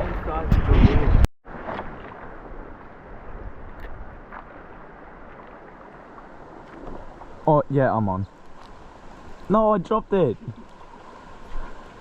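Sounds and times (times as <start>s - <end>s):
creek water running over rocks: 1.5s - 12.0s.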